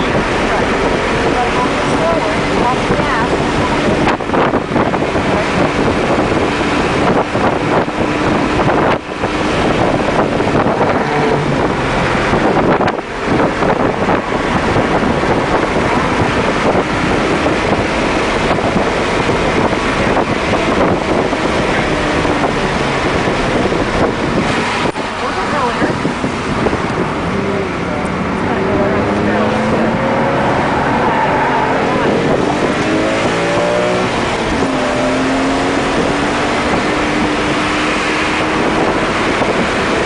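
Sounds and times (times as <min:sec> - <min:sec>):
car engine: 0:00.0 - 0:40.0
road noise: 0:00.0 - 0:40.0
wind noise: 0:00.0 - 0:40.0.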